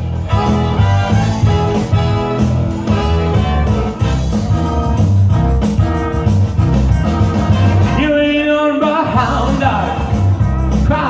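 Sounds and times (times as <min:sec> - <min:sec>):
rock and roll band instrumental: 0:00.0 - 0:11.0.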